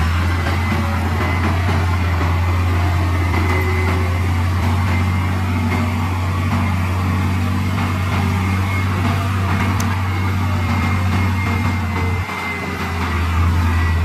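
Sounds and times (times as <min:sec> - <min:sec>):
faint high whine: 0:00.0 - 0:14.0
heavy diesel engine droning: 0:00.0 - 0:14.0.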